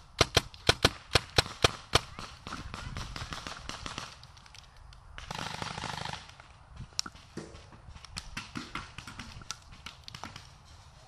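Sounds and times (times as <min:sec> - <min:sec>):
paintball markers firing: 0:00.2 - 0:10.6.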